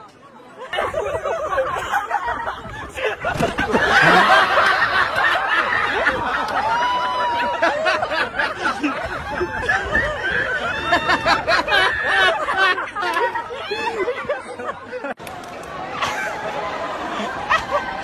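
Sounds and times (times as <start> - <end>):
crowd laughing and chattering: 0.0 - 18.0.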